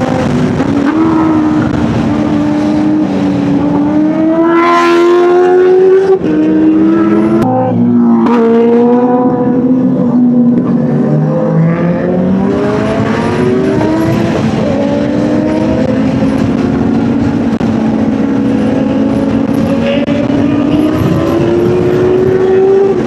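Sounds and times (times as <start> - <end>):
motorcycle engine revving: 0.0 - 23.0
wind rush: 0.0 - 23.0.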